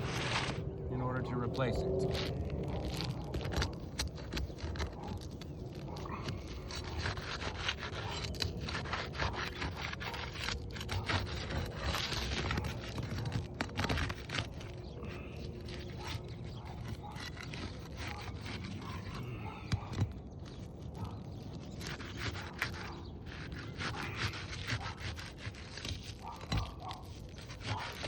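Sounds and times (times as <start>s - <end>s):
roof shingles scraping and crackling: 0.0s - 28.0s.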